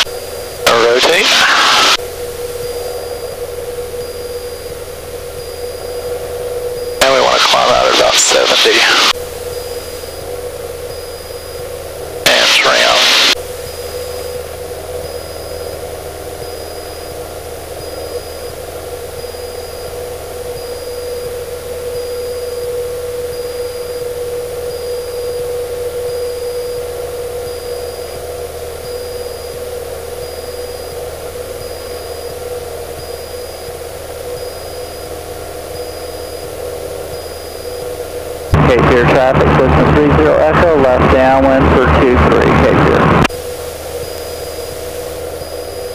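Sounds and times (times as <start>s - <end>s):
aircraft engine drone: 0.0s - 45.9s.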